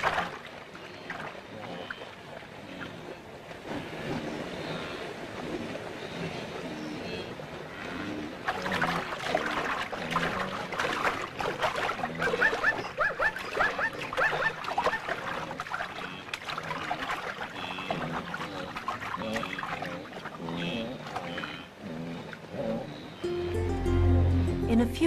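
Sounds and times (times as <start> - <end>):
animal wading through shallow water: 0.0 - 23.2.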